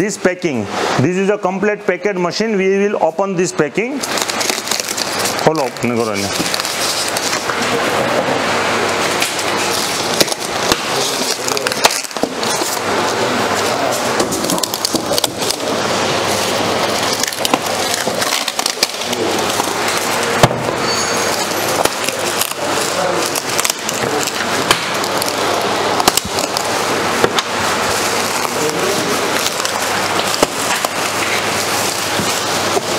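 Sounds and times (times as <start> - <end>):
plastic film crinkling: 3.9 - 32.9.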